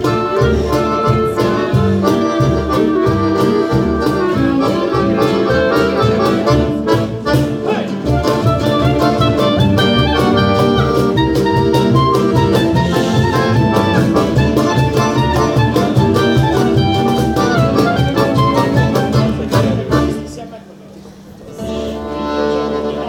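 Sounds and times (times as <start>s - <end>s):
hand drums: 0.0s - 19.9s
strummed acoustic guitar: 0.0s - 20.4s, 21.5s - 23.0s
accordion melody: 0.0s - 20.5s, 21.5s - 23.0s
plucked double bass: 0.0s - 20.5s, 21.5s - 23.0s.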